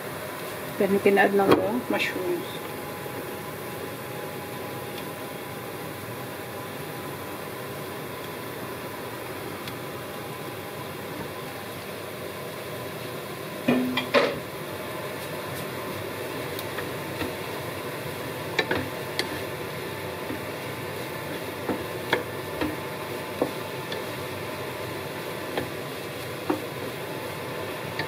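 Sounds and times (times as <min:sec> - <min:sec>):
frying hiss: 0:00.0 - 0:28.0
wooden spatula stirring in pan: 0:00.4 - 0:28.0.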